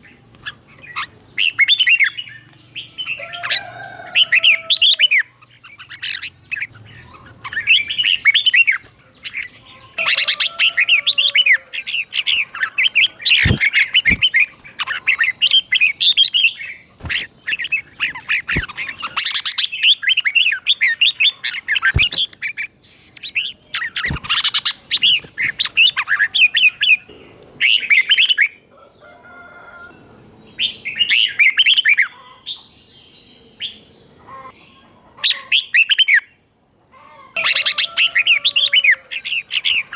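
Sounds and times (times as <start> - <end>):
bird singing chirping phrases: 0.0 - 28.7, 29.8 - 36.4, 37.4 - 39.9.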